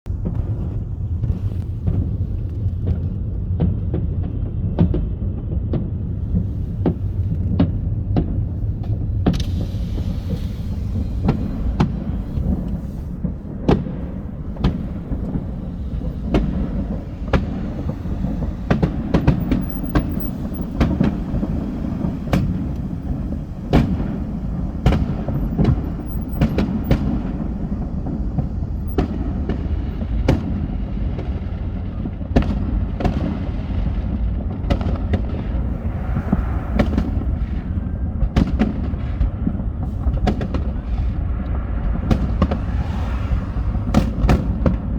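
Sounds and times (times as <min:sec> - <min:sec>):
fireworks bangs and crackles: 0:00.1 - 0:44.9
low rumble: 0:00.1 - 0:44.9.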